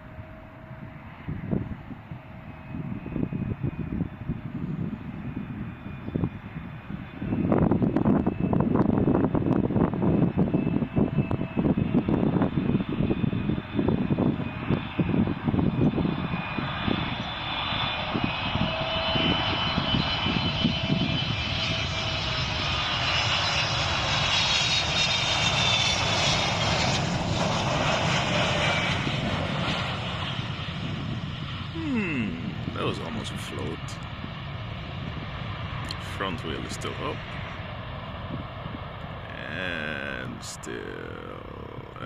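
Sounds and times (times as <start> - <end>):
wind buffeting microphone: 0.0 - 39.3
jet airliner passing low: 0.0 - 42.0.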